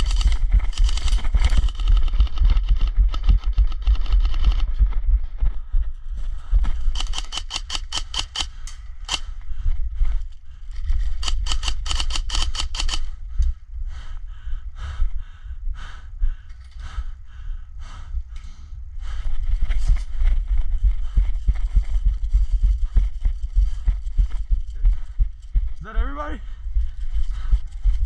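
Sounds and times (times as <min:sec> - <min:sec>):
wind rumble on microphone: 0:00.0 - 0:07.8, 0:08.7 - 0:28.0.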